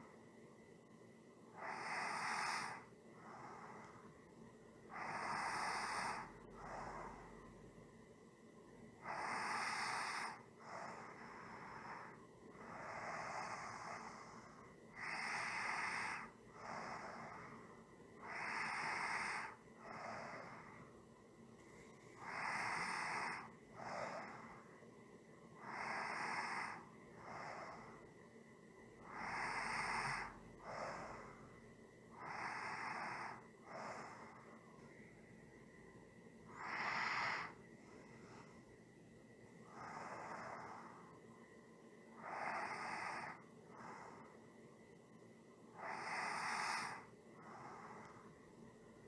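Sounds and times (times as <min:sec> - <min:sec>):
person breathing slowly: 0:01.5 - 0:07.6, 0:08.9 - 0:21.0, 0:21.6 - 0:24.8, 0:25.6 - 0:28.2, 0:29.0 - 0:35.5, 0:36.4 - 0:44.8, 0:45.7 - 0:48.6.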